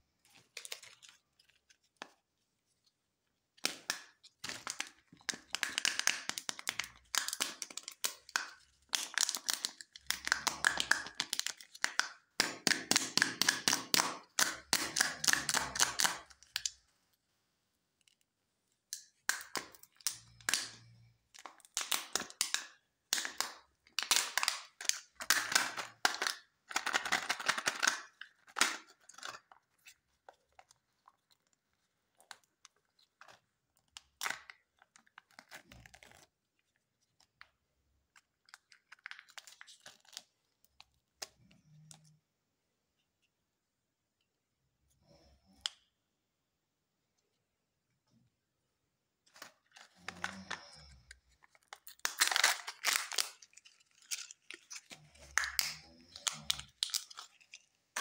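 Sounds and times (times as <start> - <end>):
plastic wrapper crinkling and tearing: 0.2 - 2.4, 3.6 - 16.8, 19.0 - 41.3, 49.3 - 58.0.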